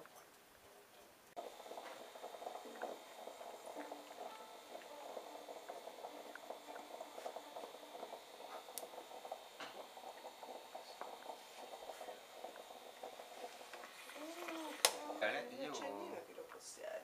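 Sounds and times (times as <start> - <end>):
moka pot gurgling and sputtering: 1.3 - 17.0.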